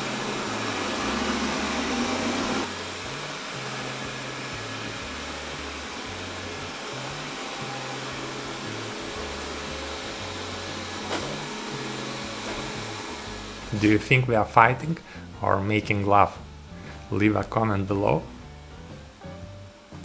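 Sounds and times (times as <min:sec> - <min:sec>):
robot vacuum cleaner whirring: 0:00.0 - 0:17.1.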